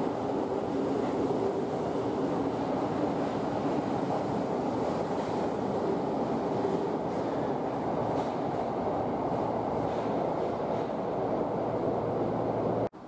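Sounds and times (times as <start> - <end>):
train wheels rumbling on rail: 0.0 - 12.9.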